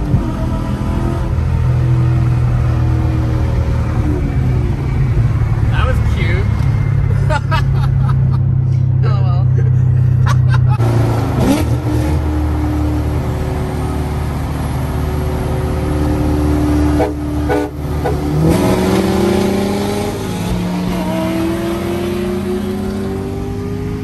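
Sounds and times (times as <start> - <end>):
pickup truck engine: 0.0 - 9.0, 9.6 - 24.0
car engine accelerating: 0.0 - 24.0.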